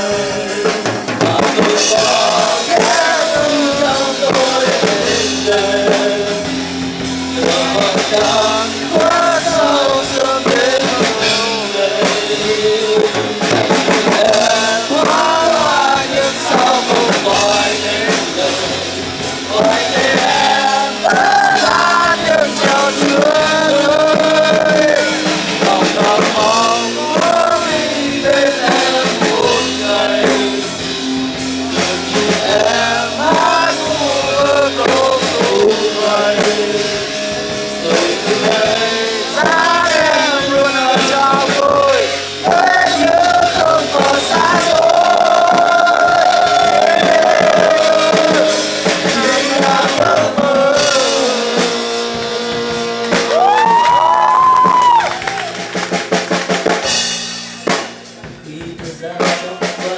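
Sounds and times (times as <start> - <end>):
melodic lead line: 0.0 - 58.8
rock band playing: 0.0 - 59.9.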